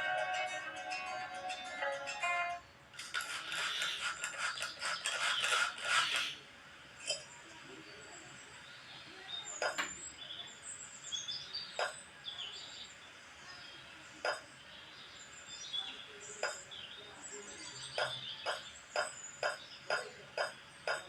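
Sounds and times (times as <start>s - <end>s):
small birds chirping: 3.4s - 21.0s.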